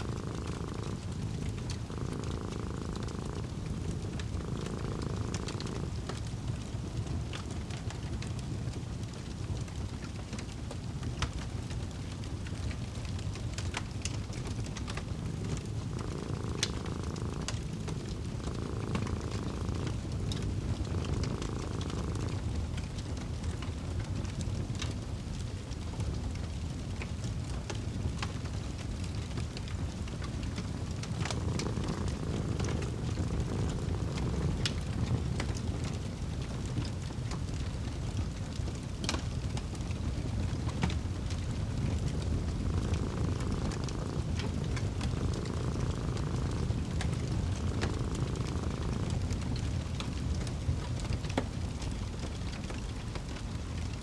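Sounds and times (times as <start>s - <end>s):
fire crackles and pops: 0.0s - 54.0s
fire low rumble: 0.0s - 54.0s.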